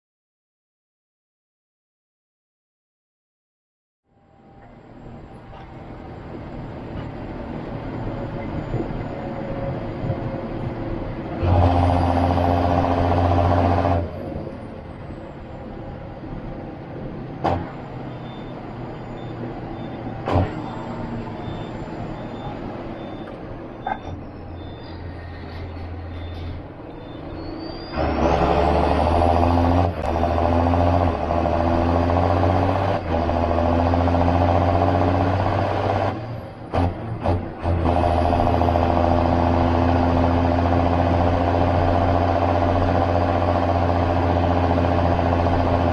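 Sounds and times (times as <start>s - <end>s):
tractor diesel engine: 4.1s - 45.9s.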